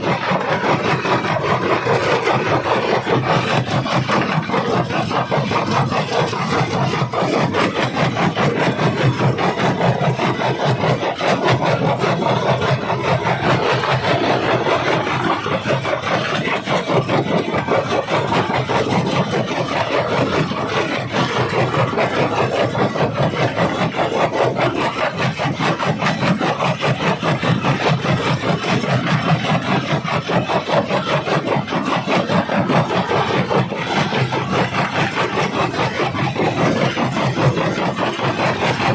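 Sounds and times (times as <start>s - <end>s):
rock crusher grinding stone: 0.0s - 38.9s.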